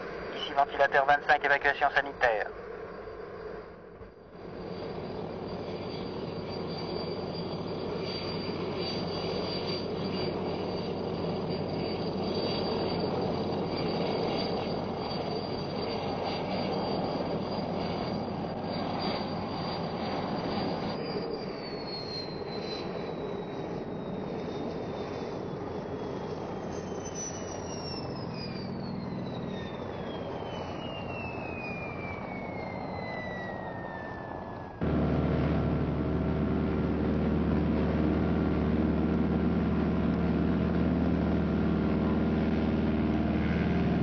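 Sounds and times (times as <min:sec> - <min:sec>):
helicopter engine and rotor rumble: 0:00.0 - 0:44.0
high turbine whine: 0:00.0 - 0:44.0.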